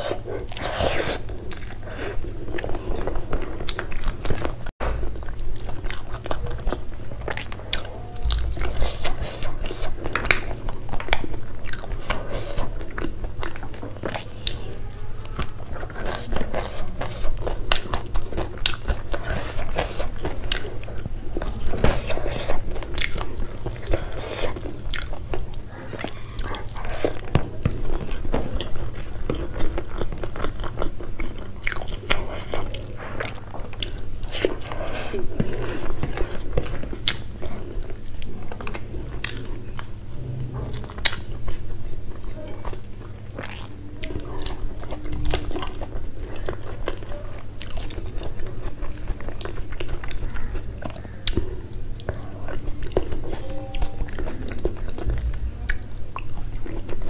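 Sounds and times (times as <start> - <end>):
person chewing and crunching: 0.0 - 57.0.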